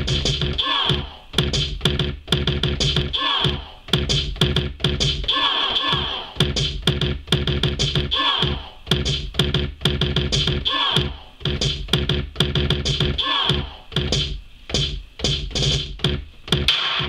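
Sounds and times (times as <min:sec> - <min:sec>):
drum machine beat: 0:00.0 - 0:17.0.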